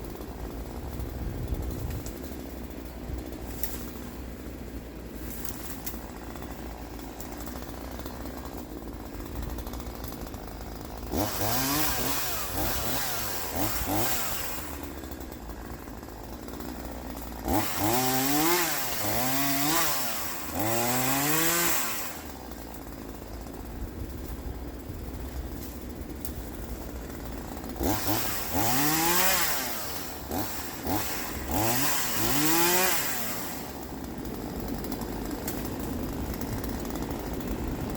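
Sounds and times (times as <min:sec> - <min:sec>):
chainsaw idling and revving: 0:00.0 - 0:37.9.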